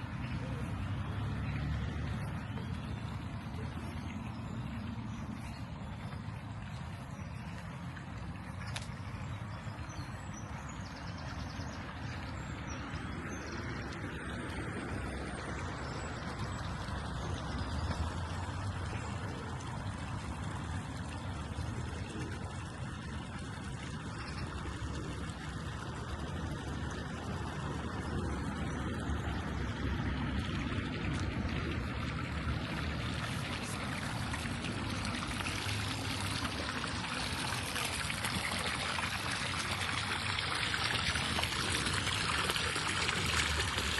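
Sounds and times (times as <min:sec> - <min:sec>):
running water trickling: 0:00.0 - 0:43.9.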